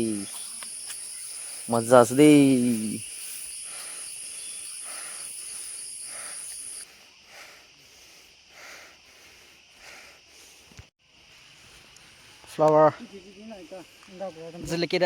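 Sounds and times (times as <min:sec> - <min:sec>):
faint outdoor hiss: 0:00.0 - 0:15.0
insects buzzing: 0:00.0 - 0:15.0.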